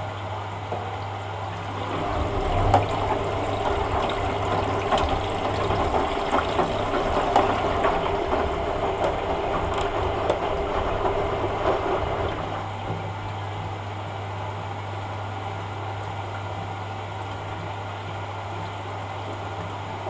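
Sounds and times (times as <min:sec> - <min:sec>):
washing machine humming: 0:00.0 - 0:20.0
water sloshing in washing machine: 0:00.4 - 0:20.0.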